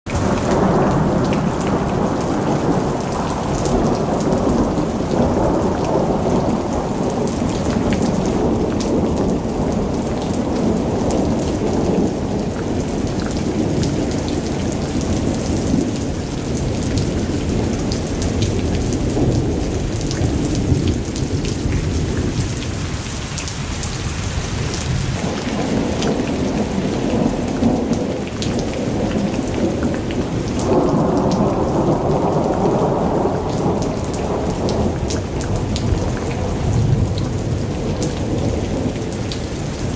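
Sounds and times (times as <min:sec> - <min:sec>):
heavy rain falling: 0:00.1 - 0:39.9.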